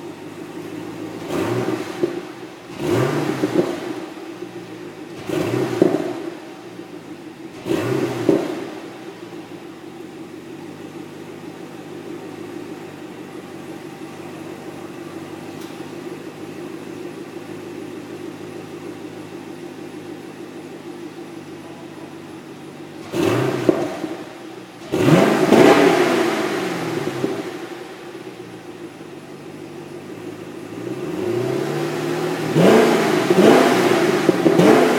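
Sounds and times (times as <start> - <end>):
car exhaust idling and revving: 0.0 - 34.9.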